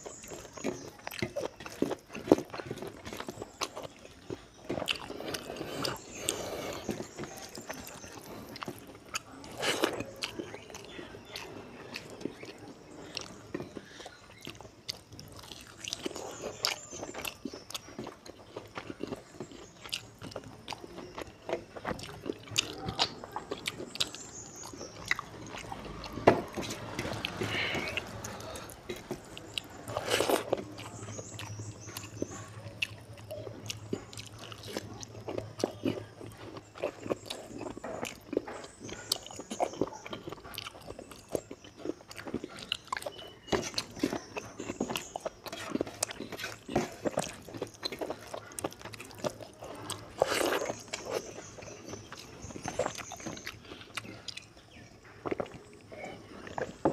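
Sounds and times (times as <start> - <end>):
wet chewing and lip smacking: 0.0 - 56.9.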